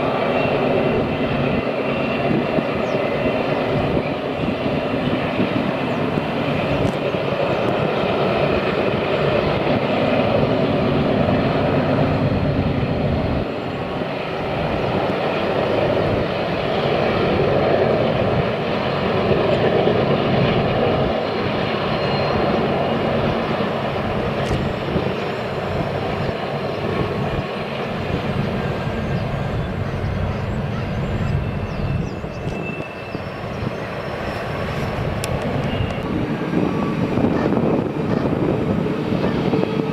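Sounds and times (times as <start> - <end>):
engine drone: 0.0 - 39.9
train rumbling by: 0.0 - 39.9.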